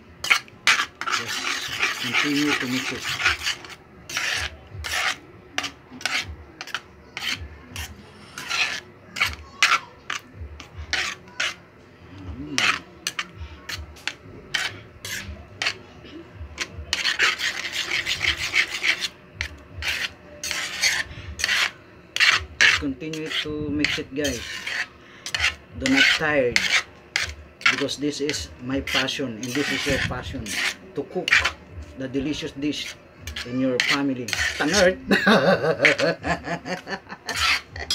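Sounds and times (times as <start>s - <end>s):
metal utensil scraping a pan: 0.2s - 11.6s, 12.4s - 15.9s, 16.6s - 37.9s.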